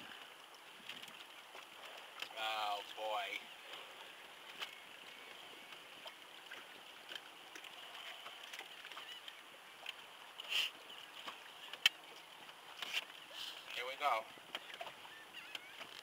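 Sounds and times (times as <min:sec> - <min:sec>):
wind and water hiss: 0:00.0 - 0:15.2.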